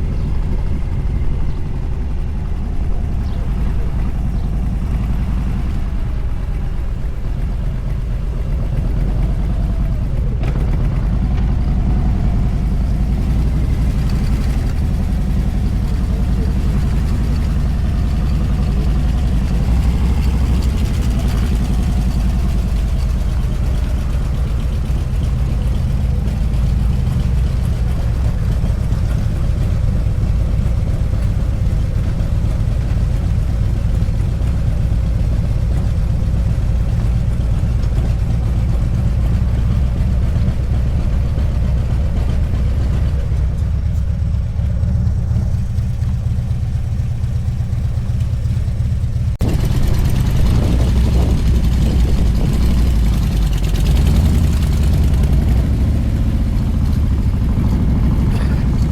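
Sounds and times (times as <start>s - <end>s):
wind noise on microphone: 0.0s - 43.3s, 46.6s - 58.2s
motorcycle engine running: 0.0s - 58.9s.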